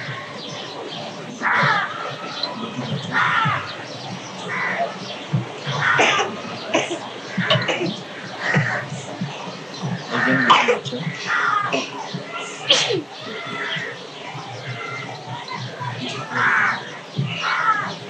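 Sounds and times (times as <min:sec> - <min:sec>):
crows cawing: 0:00.0 - 0:09.3, 0:10.0 - 0:18.0
low voices of people: 0:00.0 - 0:18.0.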